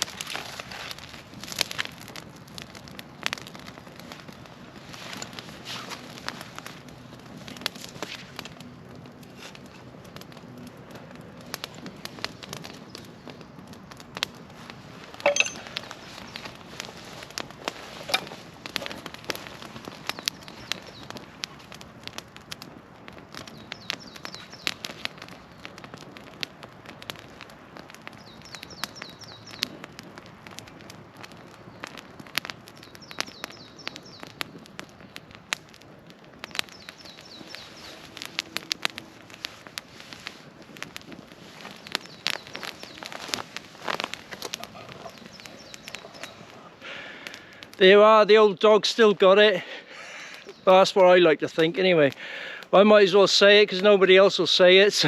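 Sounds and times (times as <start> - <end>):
small fire crackling and popping: 0.0 - 55.0.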